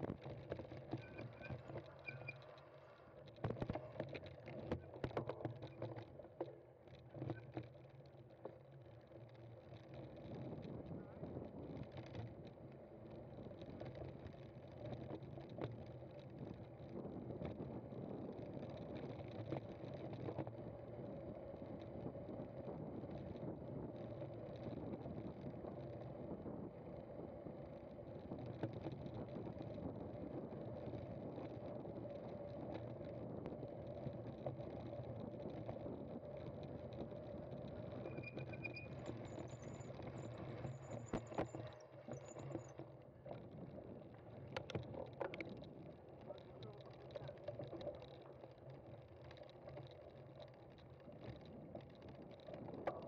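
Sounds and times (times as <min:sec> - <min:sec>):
bicycle tyres rumbling over rough ground: 0:00.0 - 0:53.0.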